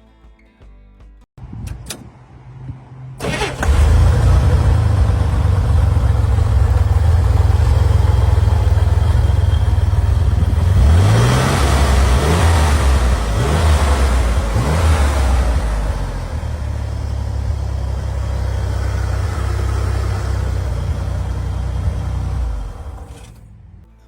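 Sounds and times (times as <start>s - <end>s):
car engine idling and revving: 1.5s - 24.0s.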